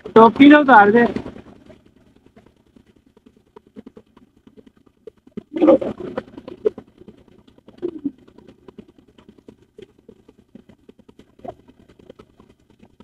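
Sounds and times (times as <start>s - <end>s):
water splashing: 0.0s - 13.0s.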